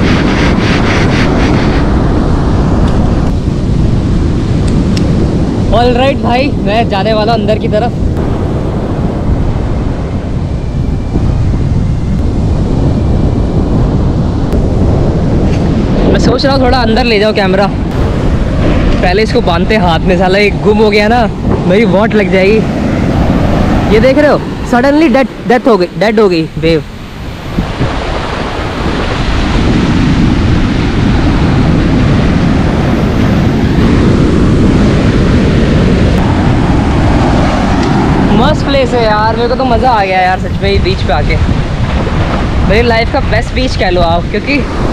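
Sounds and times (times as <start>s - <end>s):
sea waves breaking: 0.0s - 44.9s
wind noise on microphone: 0.0s - 44.9s.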